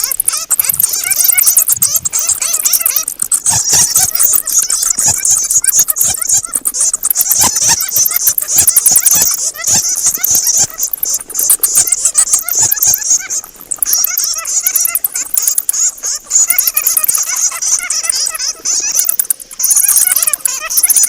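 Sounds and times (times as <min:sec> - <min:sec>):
bats chirping and squeaking: 0:00.0 - 0:21.0
sharp clicks: 0:00.0 - 0:21.0.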